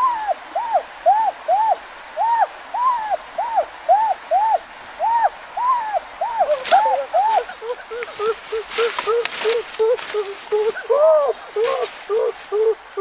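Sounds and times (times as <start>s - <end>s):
bird hooting calls: 0.0s - 13.0s
rustle: 0.0s - 13.0s.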